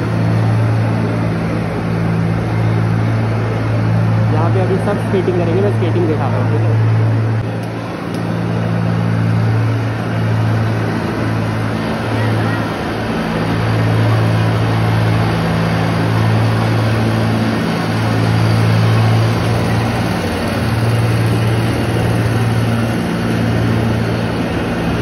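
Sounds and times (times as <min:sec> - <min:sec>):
ice resurfacing machine humming: 0:00.0 - 0:25.0.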